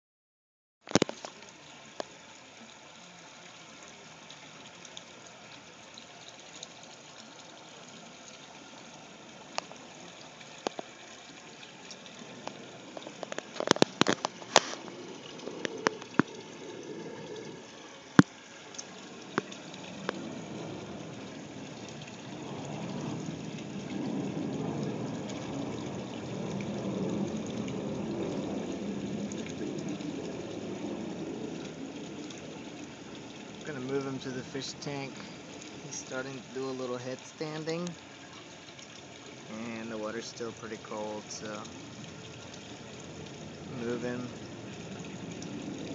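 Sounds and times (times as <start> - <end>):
water running in aquarium: 0.8 - 45.9.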